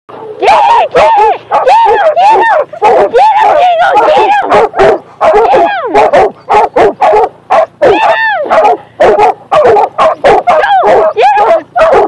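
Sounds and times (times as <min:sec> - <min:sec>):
dogs baying with yelping barks: 0:00.1 - 0:12.0.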